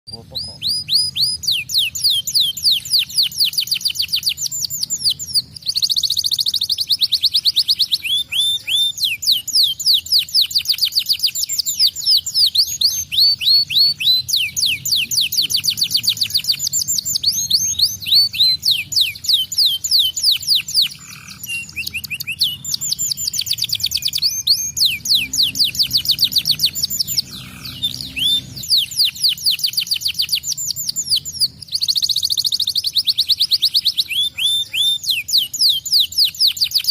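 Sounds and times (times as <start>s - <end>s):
canary singing trills: 0.1s - 36.9s.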